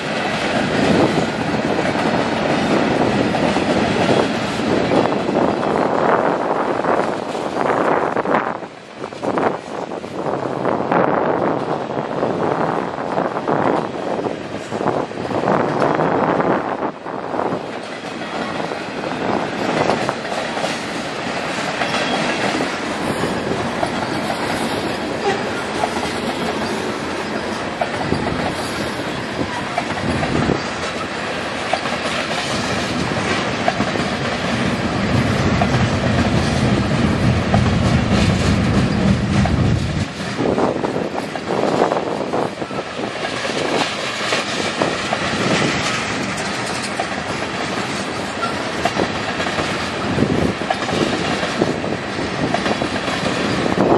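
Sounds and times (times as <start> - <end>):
wheels clicking over rail joints: 0.0 - 10.2, 17.4 - 53.9.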